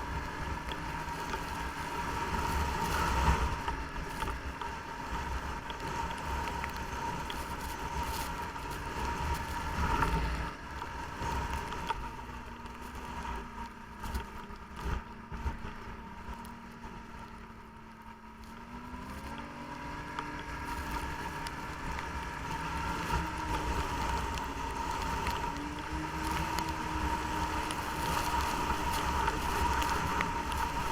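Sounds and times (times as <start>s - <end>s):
snowmobile engine running: 0.0s - 30.9s
steady high whine: 0.0s - 30.9s.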